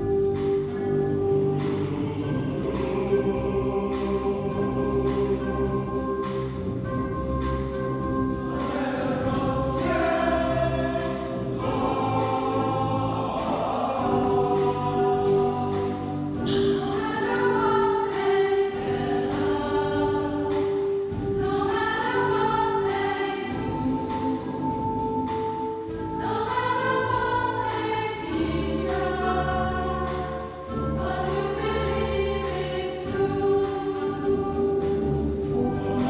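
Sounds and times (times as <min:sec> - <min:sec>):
choir singing with wind band: 0:00.0 - 0:36.0.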